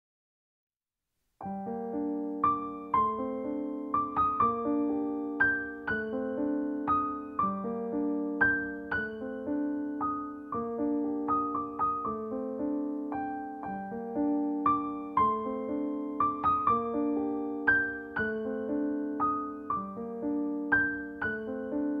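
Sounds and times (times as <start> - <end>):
gentle solo piano: 1.4 - 22.0.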